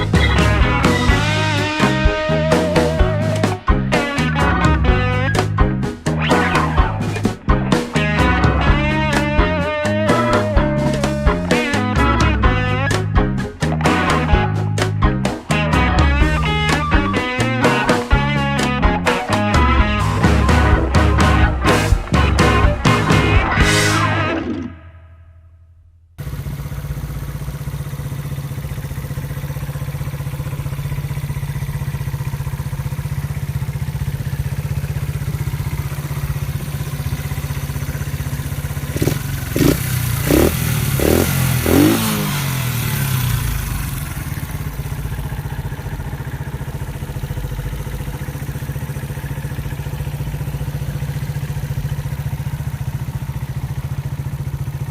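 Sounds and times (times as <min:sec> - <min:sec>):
motorcycle engine idling: 0:00.0 - 0:24.8, 0:26.2 - 0:54.9
engine revving: 0:00.0 - 0:24.9, 0:26.2 - 0:54.9.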